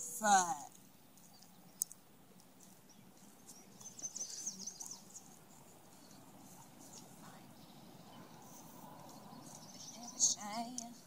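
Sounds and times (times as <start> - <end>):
small bird chirping: 0.7 - 11.0.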